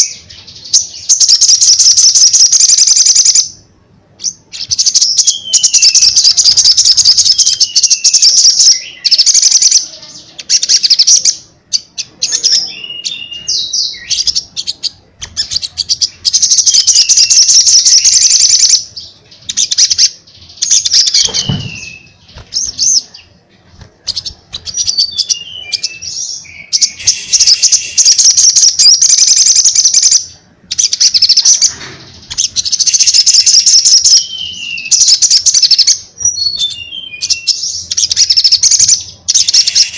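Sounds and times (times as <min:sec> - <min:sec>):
bird singing trills and whistles: 0:00.0 - 0:03.6, 0:04.2 - 0:23.4, 0:24.0 - 0:39.9.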